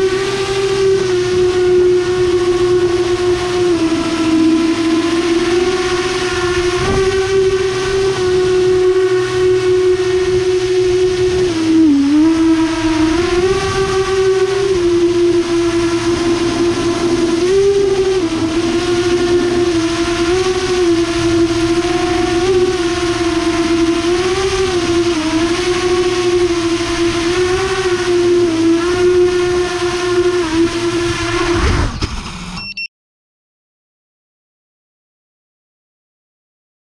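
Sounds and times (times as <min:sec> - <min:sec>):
drone propellers whirring: 0:00.0 - 0:32.7.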